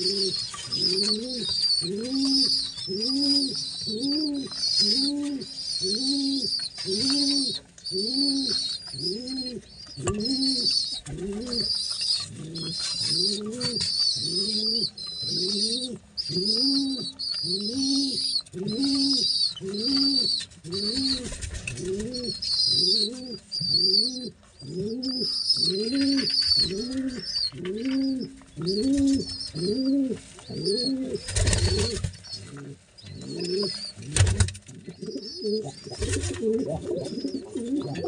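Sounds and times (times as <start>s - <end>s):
pigeon squab calls: 0.0s - 38.0s.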